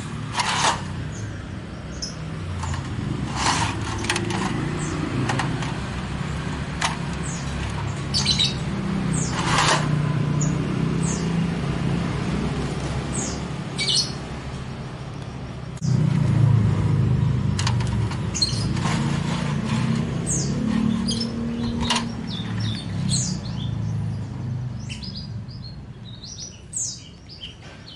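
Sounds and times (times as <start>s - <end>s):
small birds chirping: 0.0s - 16.2s, 18.0s - 27.9s.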